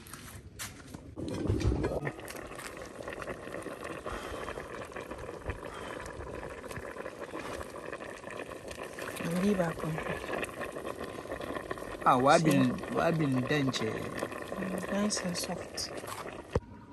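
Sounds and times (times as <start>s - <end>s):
pot bubbling at a boil: 1.1s - 16.8s.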